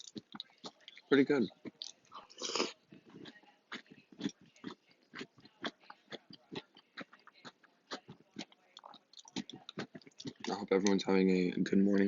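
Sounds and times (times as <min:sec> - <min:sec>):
chewing crunchy cereal: 0:00.0 - 0:11.1.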